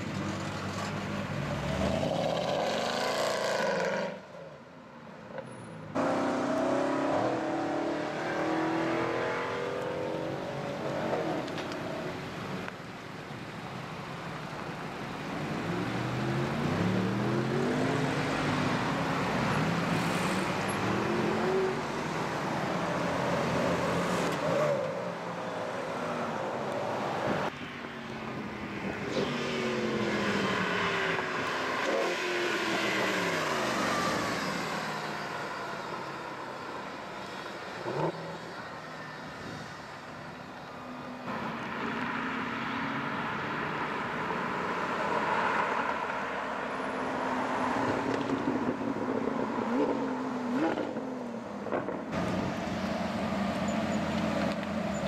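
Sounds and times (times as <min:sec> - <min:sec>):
car engines revving and passing: 0:00.0 - 0:12.8, 0:14.3 - 0:55.0.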